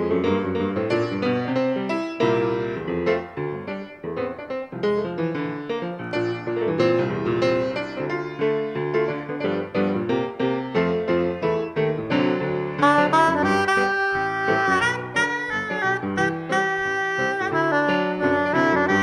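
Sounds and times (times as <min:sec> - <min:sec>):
solo piano piece: 0:00.0 - 0:19.0.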